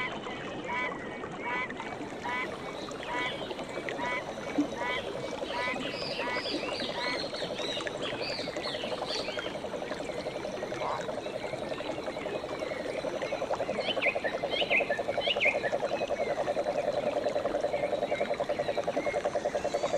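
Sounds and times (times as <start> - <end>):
frogs trilling: 0.0 - 19.9.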